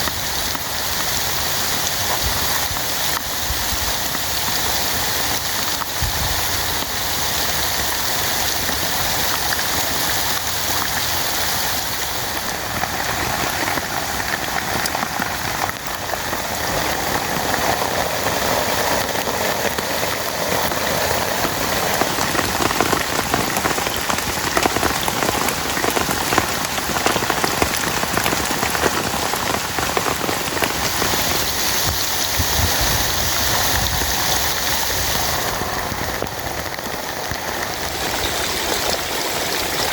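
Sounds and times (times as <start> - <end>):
heavy rain: 0.0 - 39.9
raindrops ticking: 0.0 - 39.9.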